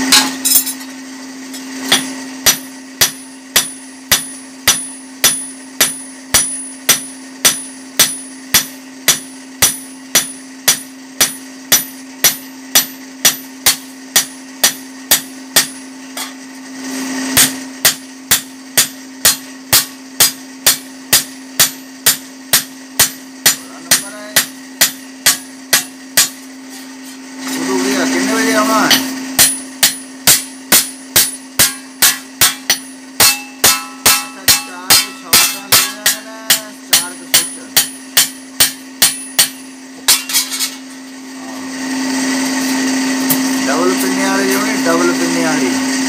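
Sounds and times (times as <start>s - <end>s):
hammer ringing on hot metal: 0.0s - 41.1s
forge blower humming: 0.0s - 46.0s.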